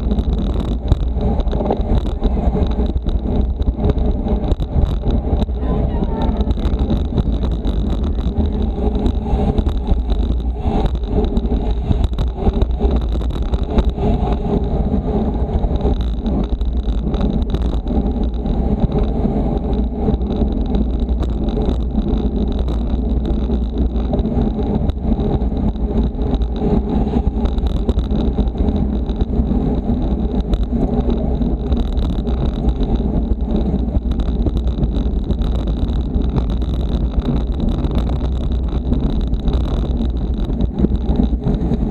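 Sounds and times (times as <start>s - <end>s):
road and tyre noise: 0.0s - 41.9s
wind on microphone: 0.0s - 41.9s.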